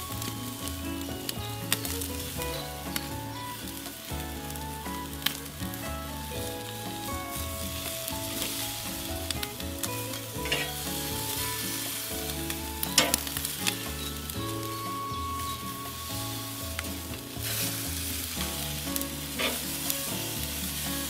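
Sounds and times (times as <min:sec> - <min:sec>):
soft background music: 0:00.0 - 0:21.0
steaks sizzling on grill: 0:00.0 - 0:21.0.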